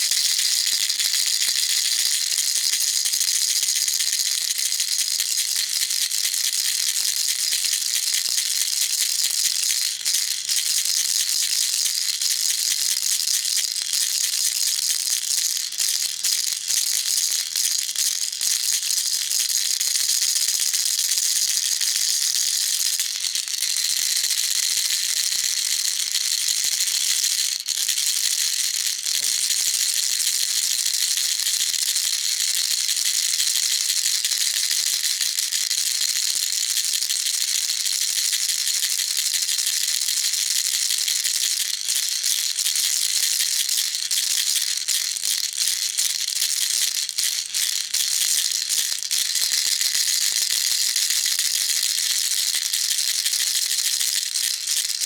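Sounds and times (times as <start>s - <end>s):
baby rattle shaken: 0.0s - 12.2s, 13.5s - 55.0s.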